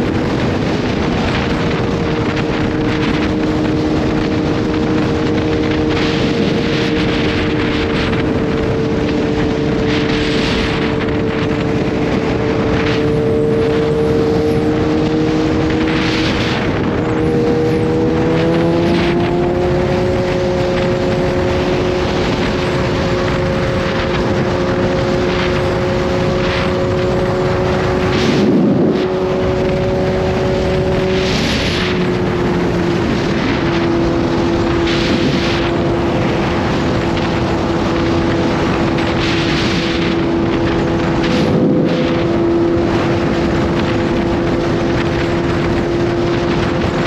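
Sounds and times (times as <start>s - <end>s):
motorcycle engine cruising: 0.0s - 47.0s.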